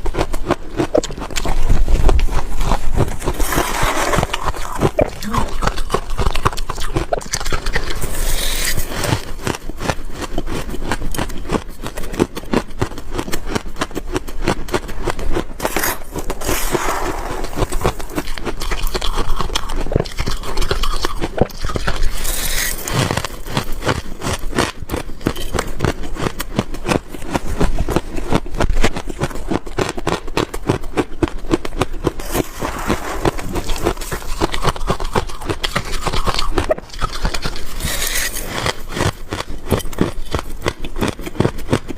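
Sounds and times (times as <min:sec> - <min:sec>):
frost being chewed crunching: 0:00.0 - 0:41.9.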